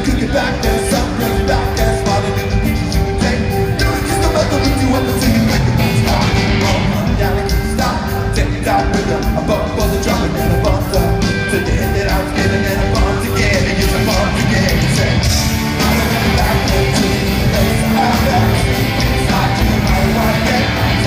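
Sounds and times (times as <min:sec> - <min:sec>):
live rock band: 0:00.0 - 0:21.0
person singing lead vocal: 0:00.0 - 0:21.0
steady drumbeat: 0:00.0 - 0:21.0.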